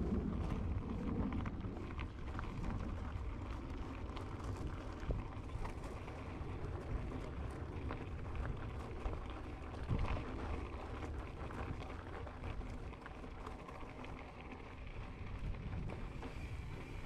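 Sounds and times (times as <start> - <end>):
wind buffeting microphone: 0.0 - 13.8, 14.7 - 17.0
bike clicks and rattles: 0.0 - 17.0.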